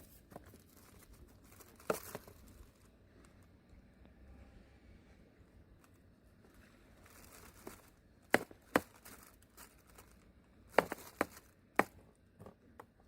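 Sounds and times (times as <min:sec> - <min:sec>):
light rustling and crinkling: 0:00.0 - 0:03.8, 0:05.7 - 0:13.0.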